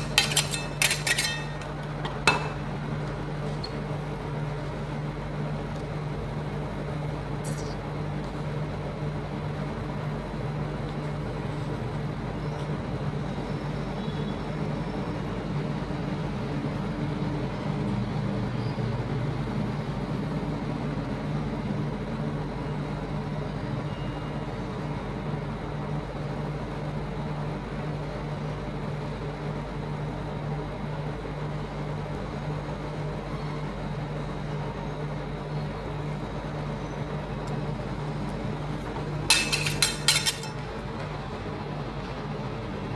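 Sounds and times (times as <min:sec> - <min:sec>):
constant background noise: 0:00.0 - 0:42.9
low mechanical hum: 0:00.0 - 0:42.9.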